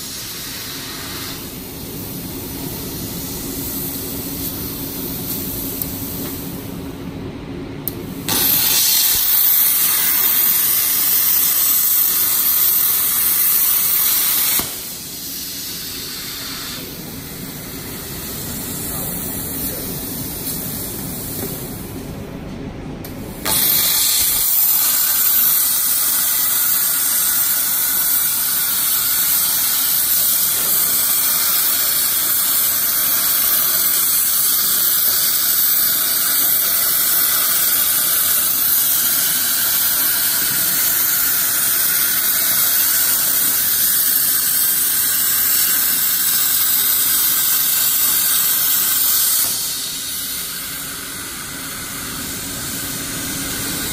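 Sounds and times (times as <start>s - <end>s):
plasma torch arc hiss: 0.0s - 6.8s, 7.8s - 22.0s, 23.1s - 53.9s.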